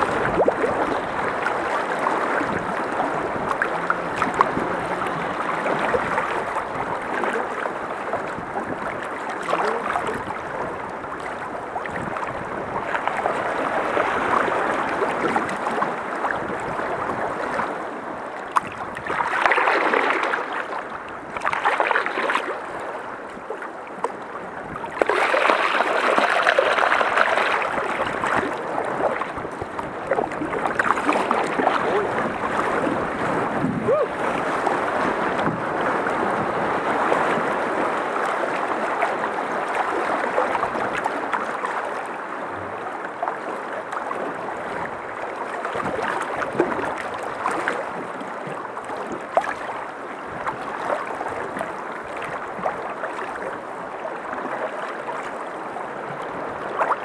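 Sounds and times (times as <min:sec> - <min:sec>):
river rapid rushing water: 0:00.0 - 0:57.0.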